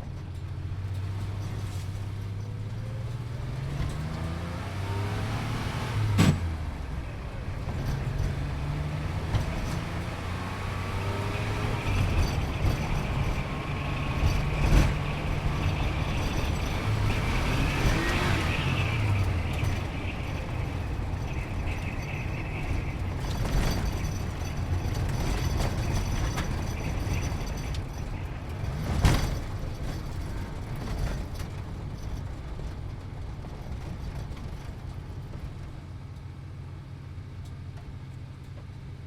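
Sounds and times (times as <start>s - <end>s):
car engine accelerating: 0.0s - 36.7s
road and tyre noise: 0.0s - 39.0s.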